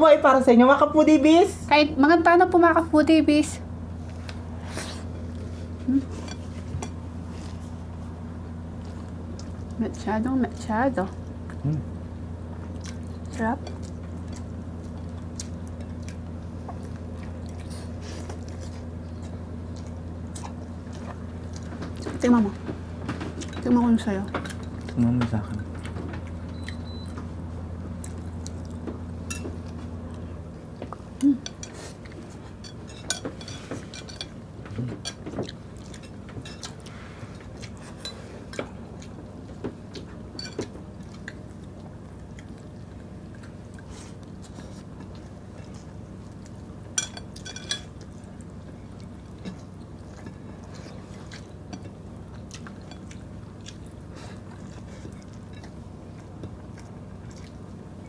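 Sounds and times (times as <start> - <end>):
low steady hum: 0.0 - 58.0
people chewing food: 3.9 - 58.0.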